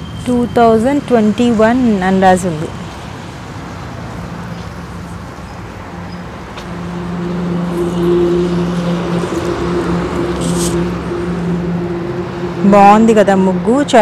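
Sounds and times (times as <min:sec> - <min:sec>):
engine hum: 0:00.0 - 0:14.0
traffic noise: 0:00.0 - 0:14.0.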